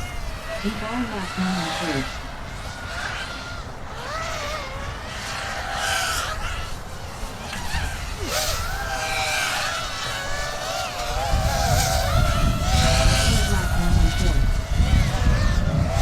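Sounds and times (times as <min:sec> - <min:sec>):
quadcopter motors whining: 0:00.0 - 0:16.0
wind rumble on microphone: 0:00.0 - 0:16.0.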